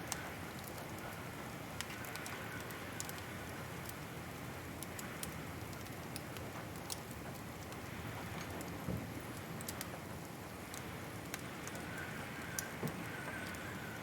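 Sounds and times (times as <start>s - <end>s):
fire crackling and popping: 0.0s - 14.0s
steady fire hiss: 0.0s - 14.0s.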